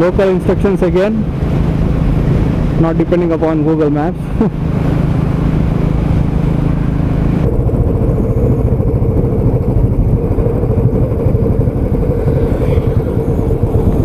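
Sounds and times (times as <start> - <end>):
motorcycle engine running: 0.0 - 14.0
steady hum: 0.1 - 14.0.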